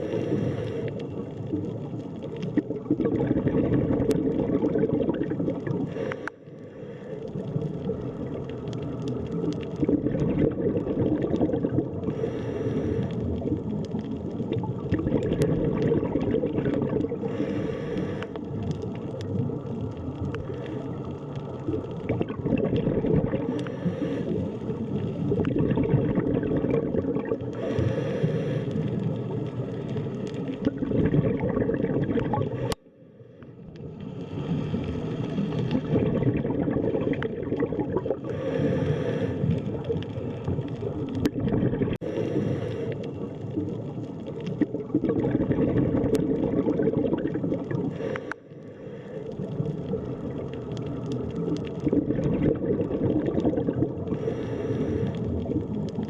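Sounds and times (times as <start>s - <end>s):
muffled underwater rumbling: 0.0s - 56.0s
gurgling bubble bursts: 1.2s - 6.2s, 7.3s - 17.5s, 18.1s - 27.8s, 28.9s - 32.8s, 34.7s - 42.1s, 43.2s - 48.3s, 49.3s - 56.0s.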